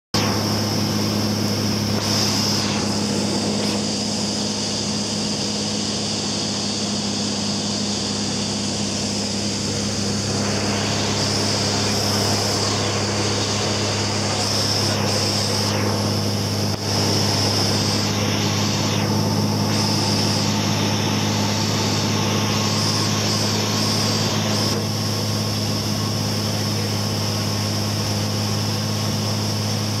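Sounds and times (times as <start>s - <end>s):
aircraft engine and propeller: 0.1s - 30.0s.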